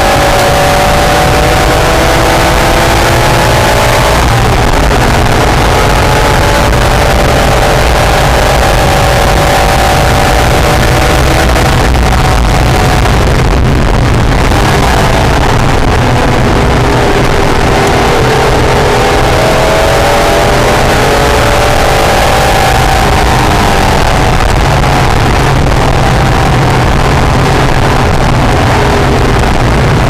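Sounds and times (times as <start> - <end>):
car engine running hard: 0.0 - 30.0
wind and road noise: 0.0 - 30.0.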